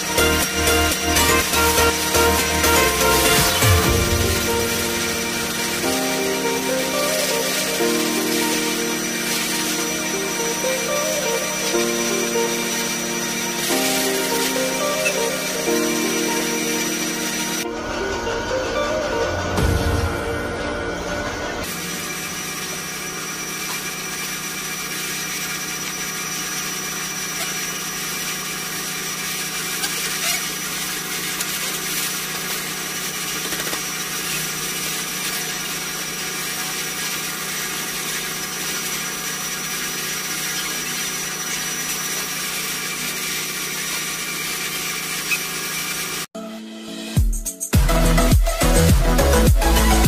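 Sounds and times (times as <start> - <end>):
motor running with high whine: 0.0 - 46.3, 47.8 - 50.0.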